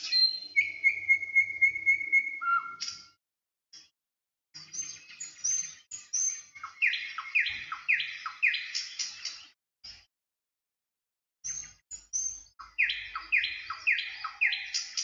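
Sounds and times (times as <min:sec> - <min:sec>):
small birds chirping: 0:00.0 - 0:03.2, 0:04.6 - 0:10.1, 0:11.4 - 0:15.0.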